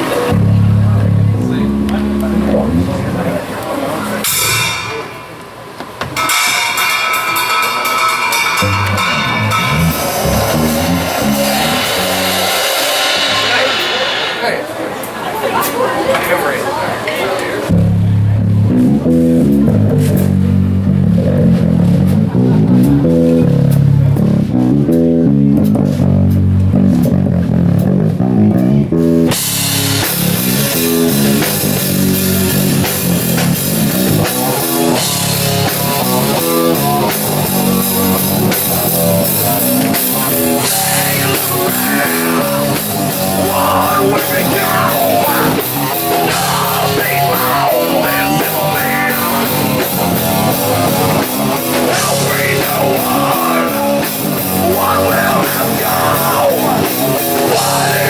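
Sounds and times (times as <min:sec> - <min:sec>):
chugging guitar riff: 0:00.0 - 0:05.5, 0:06.2 - 0:14.3, 0:17.7 - 0:58.0
rock band playing: 0:00.0 - 0:15.8, 0:17.6 - 0:58.0
drums: 0:00.0 - 0:58.0.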